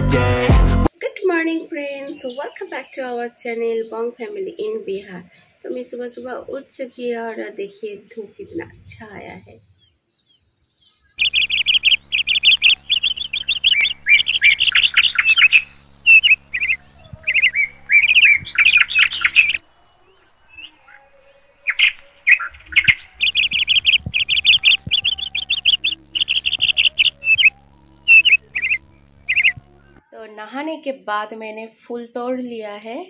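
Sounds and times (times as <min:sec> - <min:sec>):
faint low hum: 0:01.0 - 0:30.8
small birds chirping: 0:01.9 - 0:30.0.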